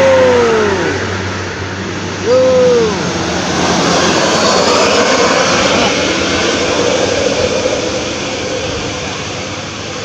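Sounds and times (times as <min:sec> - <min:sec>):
bus passing close by: 0:00.0 - 0:10.0.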